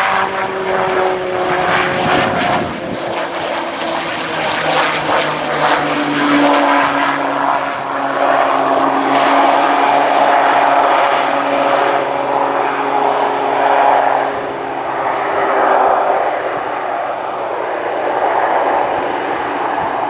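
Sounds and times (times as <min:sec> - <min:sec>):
turboprop aircraft engine drone: 0:00.0 - 0:20.0.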